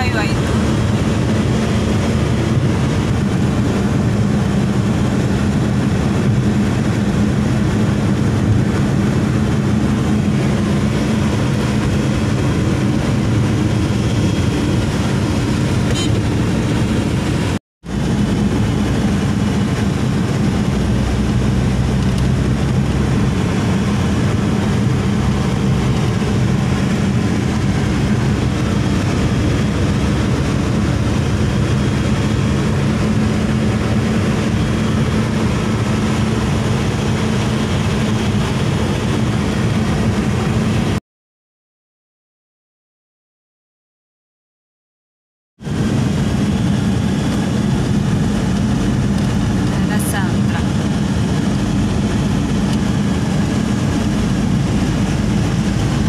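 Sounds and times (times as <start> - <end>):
car engine drone: 0.0 - 41.0, 45.6 - 56.0
road noise inside car: 0.0 - 41.0, 45.6 - 56.0.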